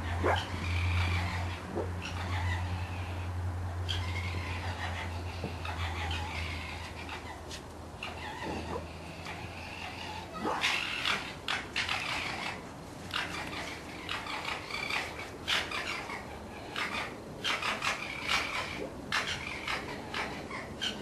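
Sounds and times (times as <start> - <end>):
fox high-pitched calls: 0.0 - 21.0.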